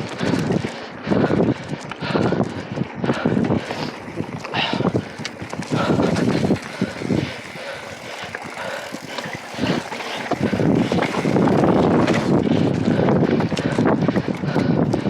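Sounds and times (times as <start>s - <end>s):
wind on microphone: 0.0s - 15.0s
bike clattering over dirt trail: 1.3s - 15.0s.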